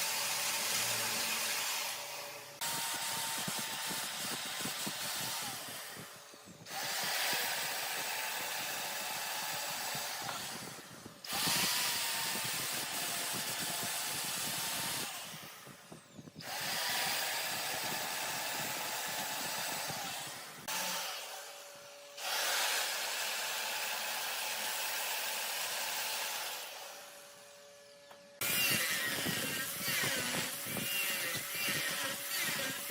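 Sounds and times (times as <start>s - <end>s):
wood lathe cutting wood: 0.0s - 15.8s, 16.4s - 27.4s, 28.4s - 32.9s.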